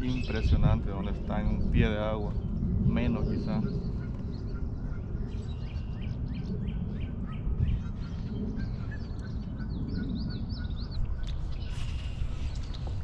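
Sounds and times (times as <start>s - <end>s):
birds chirping: 0.0s - 13.0s
birds warbling: 0.0s - 13.0s
low rumble: 0.0s - 13.0s.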